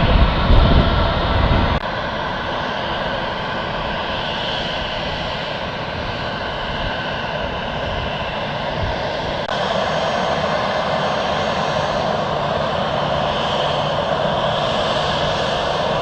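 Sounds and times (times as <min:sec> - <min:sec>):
aircraft engines running: 0:00.0 - 0:16.0.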